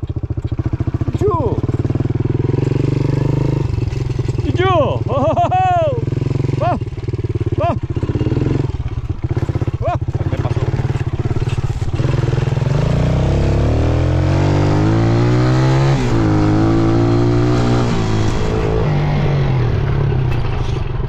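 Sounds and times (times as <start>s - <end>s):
vehicle engine idling and pulling away: 0.0s - 4.4s, 5.0s - 21.0s.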